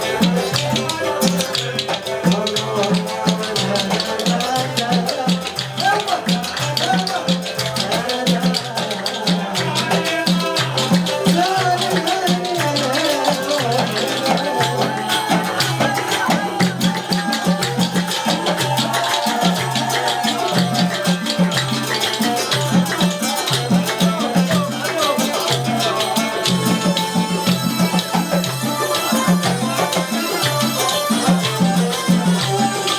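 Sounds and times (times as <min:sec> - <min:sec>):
drum pattern: 0:00.0 - 0:32.9
shaker rattle: 0:00.0 - 0:32.9
wavering melody: 0:00.0 - 0:32.9.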